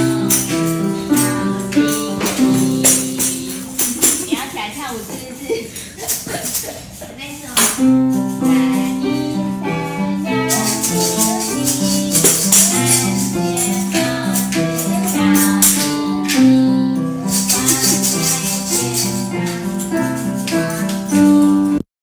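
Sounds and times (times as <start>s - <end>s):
digital piano melody with chords: 0.0s - 4.3s, 7.8s - 21.9s
maracas rattling: 0.0s - 21.8s.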